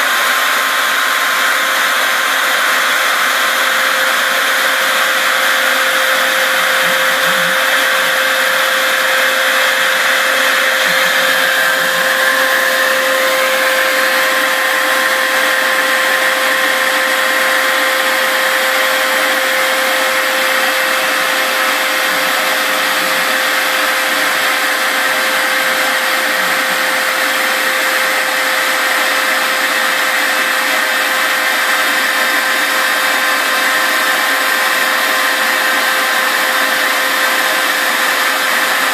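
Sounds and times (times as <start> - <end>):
router cutting foam: 0.0 - 38.9
shop vac running: 0.0 - 38.9.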